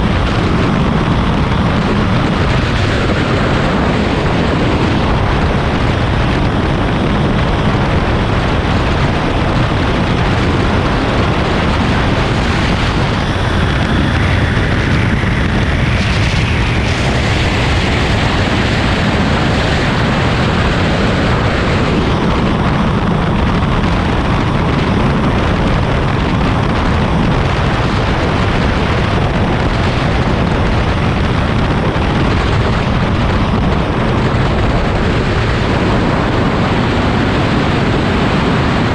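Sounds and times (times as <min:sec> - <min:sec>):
motorcycle engine running: 0:00.0 - 0:38.7
wind roaring over microphone: 0:00.0 - 0:38.9.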